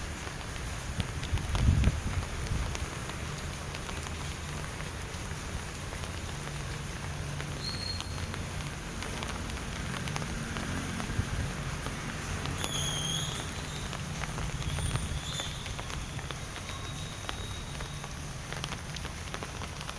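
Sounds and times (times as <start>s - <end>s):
rain falling: 0.0s - 19.9s.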